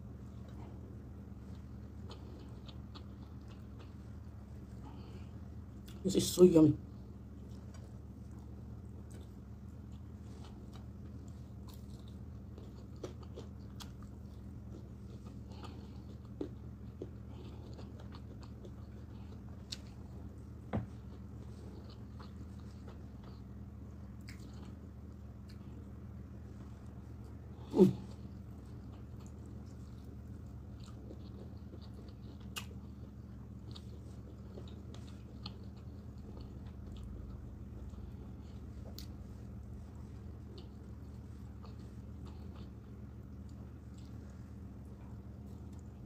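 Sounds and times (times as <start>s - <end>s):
person chewing food: 0.0s - 6.1s, 6.9s - 46.0s
steady low hum: 0.0s - 46.0s.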